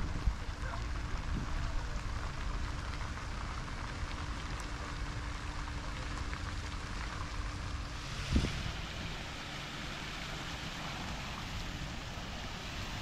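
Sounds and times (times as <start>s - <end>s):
faint steady hum: 0.0s - 13.0s
rain falling on water and paving: 0.0s - 13.0s.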